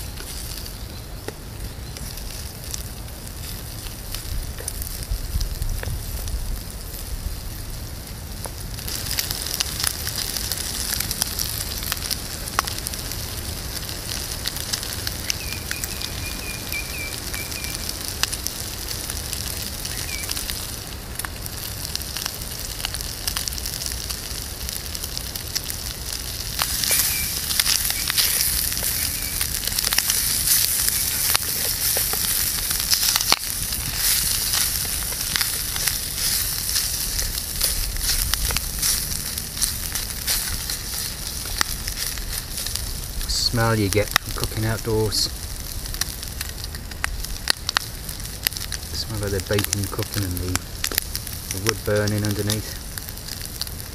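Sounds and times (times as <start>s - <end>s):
bacon sizzling in a frying pan: 0.0s - 53.9s
burning wood crackling: 0.0s - 53.9s.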